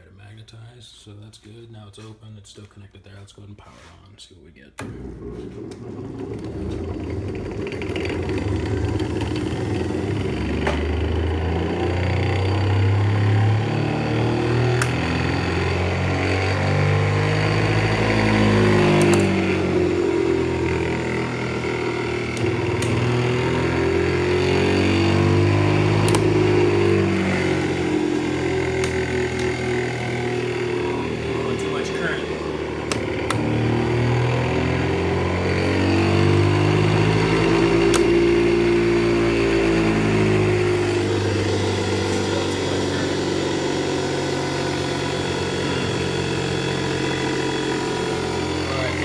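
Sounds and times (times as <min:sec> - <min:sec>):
motor and alternator humming: 0:04.8 - 0:49.0.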